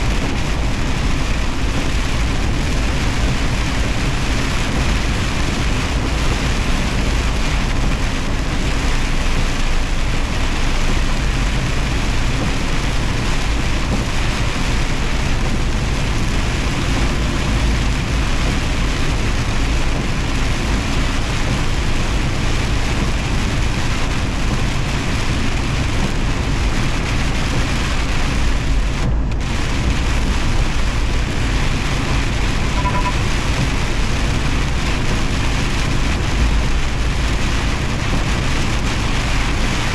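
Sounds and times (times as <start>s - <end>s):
rain and road spray hiss: 0.0s - 39.9s
truck engine and tyres rumbling: 0.0s - 39.9s.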